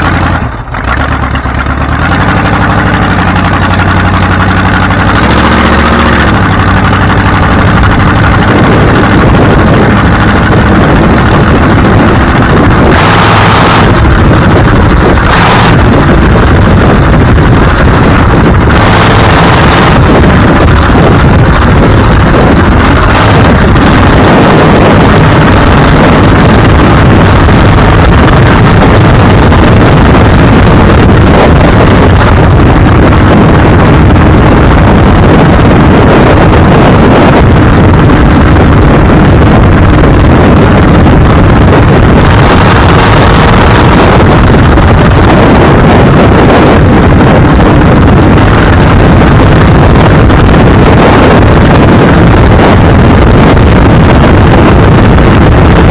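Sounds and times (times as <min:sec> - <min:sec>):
vehicle engine and road noise: 0:00.0 - 0:55.9
wind buffeting microphone: 0:00.0 - 0:55.9.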